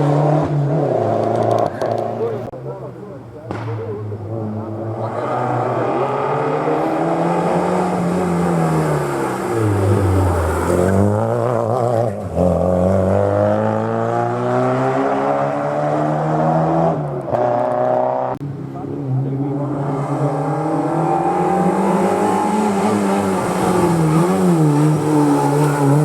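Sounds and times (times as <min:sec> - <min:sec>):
rally car engine revving: 0:00.0 - 0:02.6, 0:03.5 - 0:26.0.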